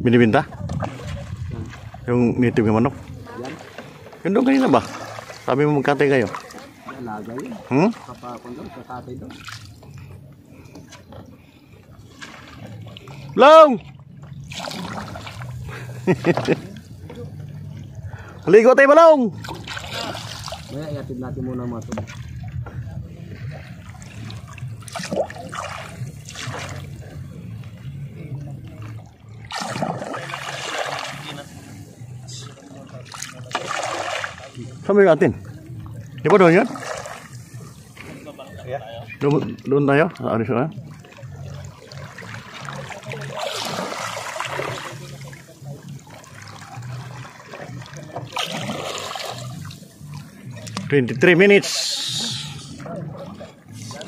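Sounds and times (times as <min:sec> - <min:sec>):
water splashing and sloshing: 0:00.0 - 0:54.0.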